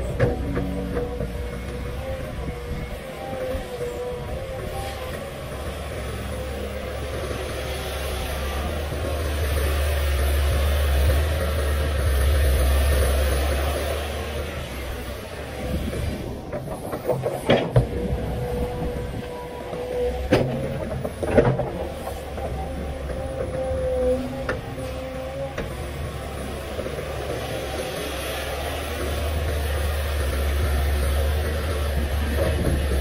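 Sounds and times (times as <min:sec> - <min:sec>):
excavator diesel engine: 0:00.0 - 0:33.0.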